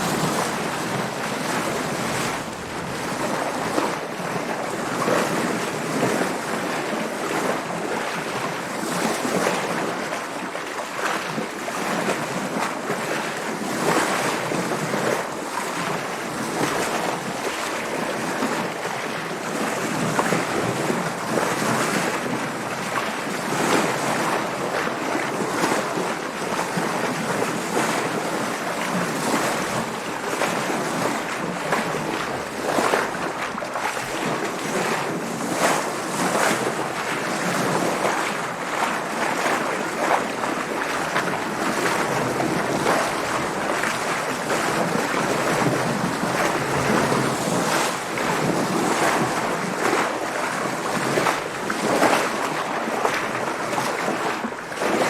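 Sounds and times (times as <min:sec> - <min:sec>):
sea water splashing against hull: 0:00.0 - 0:55.0
wind: 0:00.0 - 0:55.0.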